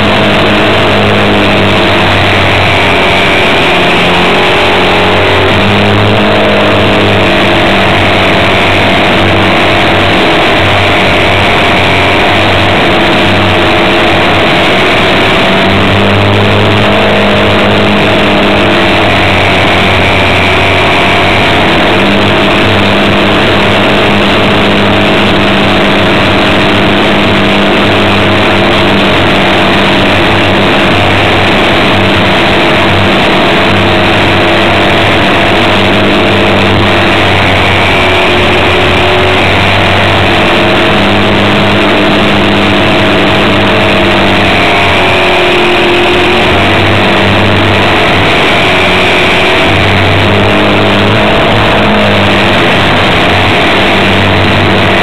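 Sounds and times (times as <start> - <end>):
electric motor and propeller drone: 0.0 - 55.0
wind rush: 0.0 - 55.0.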